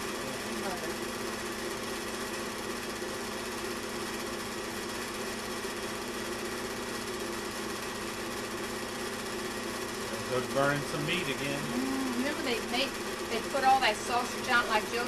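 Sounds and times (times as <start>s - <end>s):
film projector whirring and clattering: 0.0s - 15.0s.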